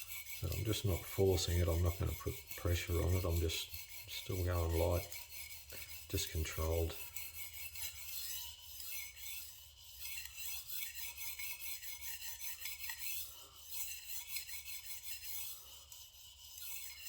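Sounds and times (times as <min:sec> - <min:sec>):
knife scraping on sharpening stone: 0:00.0 - 0:17.0.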